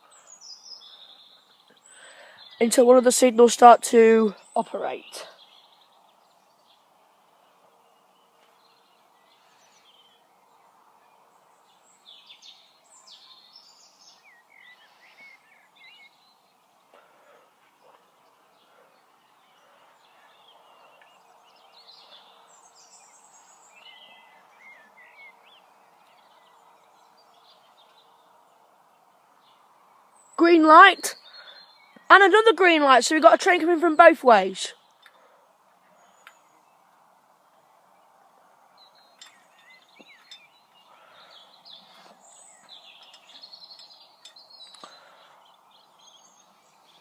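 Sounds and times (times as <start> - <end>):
background hiss: 0.0 - 47.0
birds chirping and warbling: 0.0 - 47.0.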